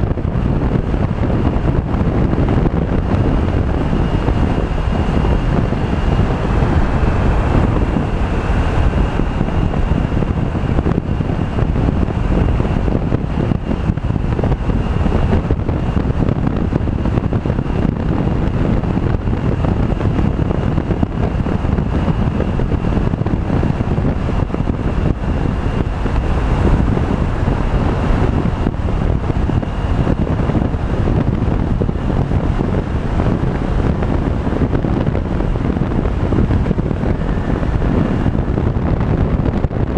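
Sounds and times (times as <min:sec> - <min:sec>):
faint high whine: 0:00.0 - 0:39.5
scooter engine and tyres running: 0:00.0 - 0:39.9
wind buffeting microphone: 0:00.0 - 0:39.9.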